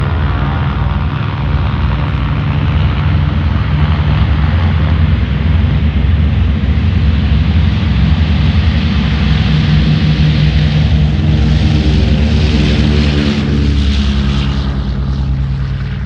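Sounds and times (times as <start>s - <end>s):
airplane engines roaring: 0.0s - 16.0s.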